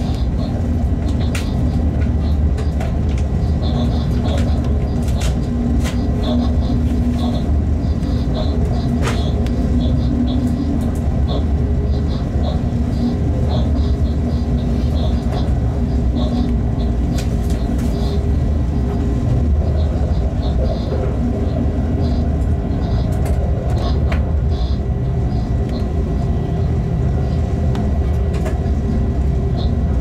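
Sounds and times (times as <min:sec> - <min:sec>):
train low rumble: 0:00.0 - 0:30.0.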